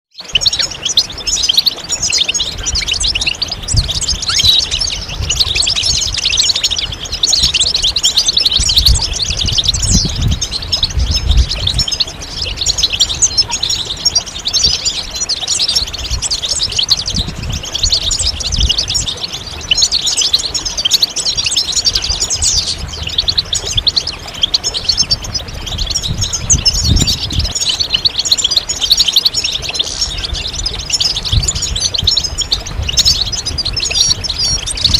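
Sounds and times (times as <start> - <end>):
goldfinch twittering song: 0.1 - 34.9.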